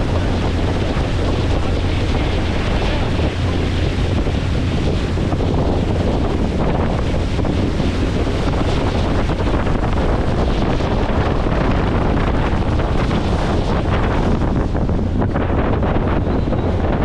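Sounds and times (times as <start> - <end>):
rushing water: 0.0 - 17.0
wind buffeting microphone: 0.0 - 17.0.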